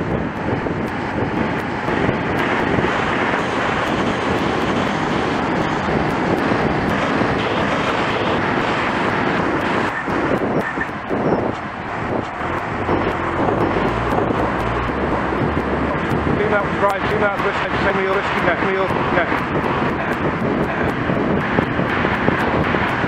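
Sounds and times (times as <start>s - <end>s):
cars passing: 0.0s - 23.0s
wind noise on microphone: 0.0s - 23.0s.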